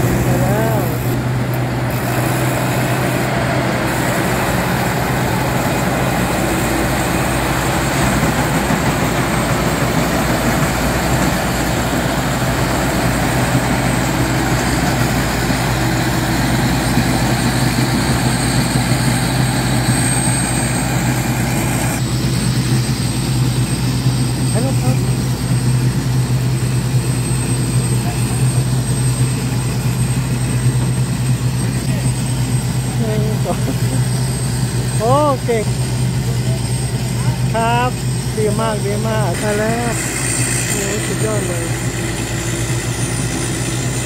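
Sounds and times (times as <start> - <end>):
combine harvester running: 0.0 - 44.0.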